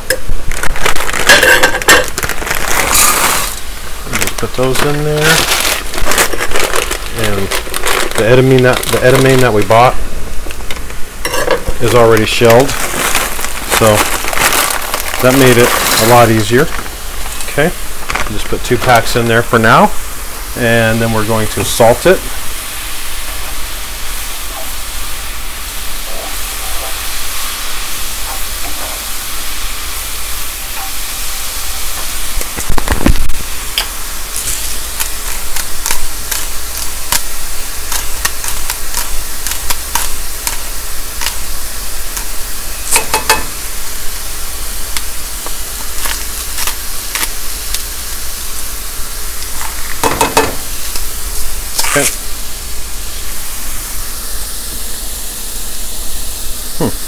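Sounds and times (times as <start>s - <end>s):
mushrooms sizzling in butter: 0.0s - 57.0s.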